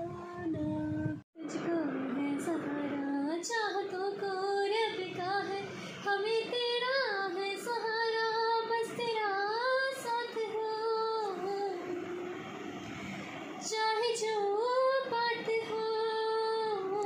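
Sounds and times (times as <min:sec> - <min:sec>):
woman singing unaccompanied: 0:00.0 - 0:12.4, 0:13.6 - 0:17.0.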